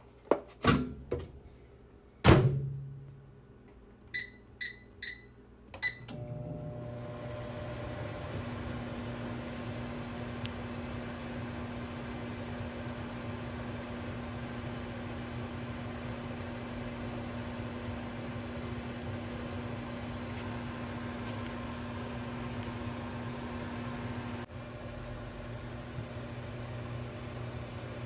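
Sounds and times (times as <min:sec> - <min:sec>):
microwave oven hum: 0:02.2 - 0:28.0
microwave fan whirring: 0:04.0 - 0:28.0.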